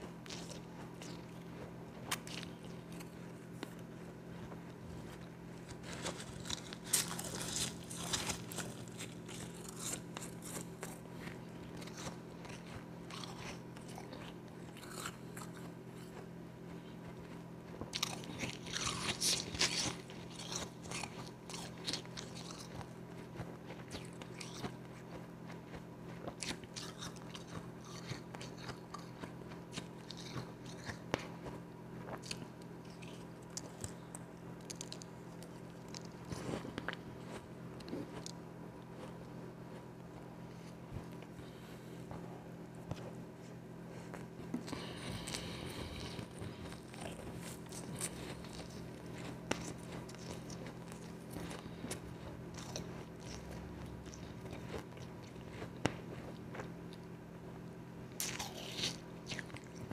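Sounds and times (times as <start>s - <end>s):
crunching and chewing ice: 0.0s - 59.9s.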